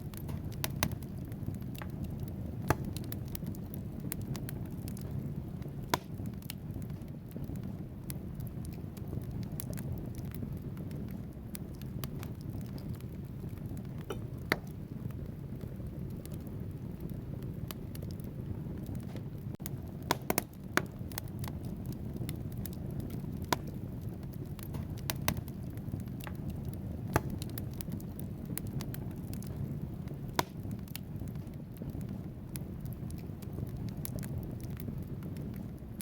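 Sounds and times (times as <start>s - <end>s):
logs crackling and popping: 0.0s - 36.0s
low rush of flames: 0.0s - 36.0s.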